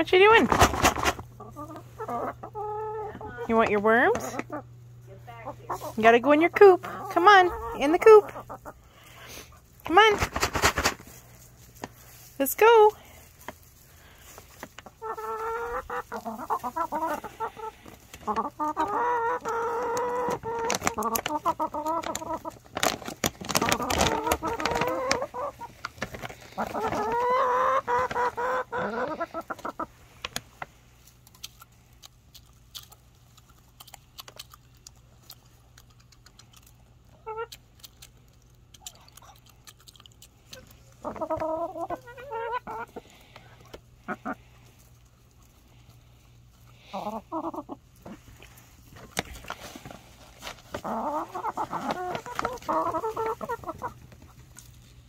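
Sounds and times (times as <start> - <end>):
hens clicking: 0.0 - 55.0
hens clucking and calling: 0.2 - 31.2, 36.3 - 37.7, 39.4 - 49.8, 50.4 - 55.0.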